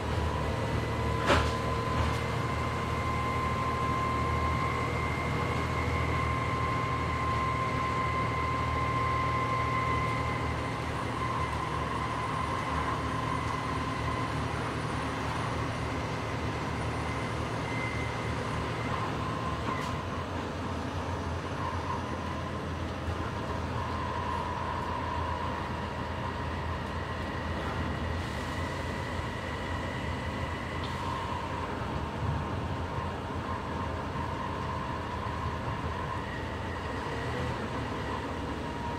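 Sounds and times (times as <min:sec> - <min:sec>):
bus engine drone: 0:00.0 - 0:38.9
high drivetrain whine: 0:00.0 - 0:38.9.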